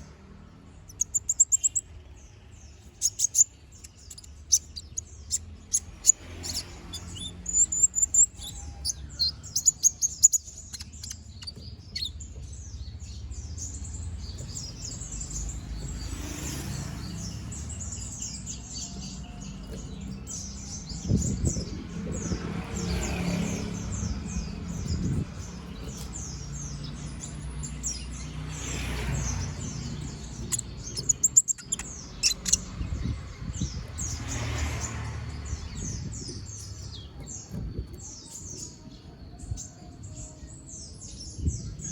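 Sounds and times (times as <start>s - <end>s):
bird chattering song: 0.0s - 41.9s.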